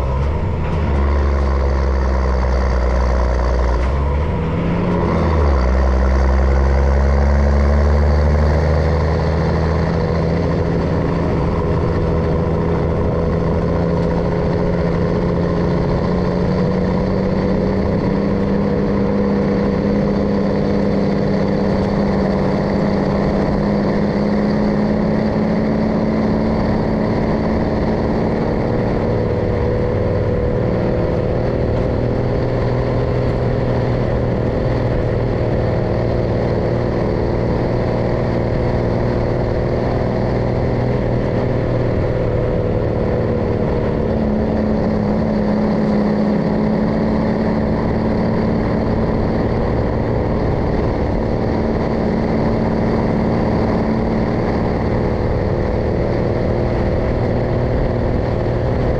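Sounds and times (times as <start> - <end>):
truck diesel engine running: 0.0 - 58.9.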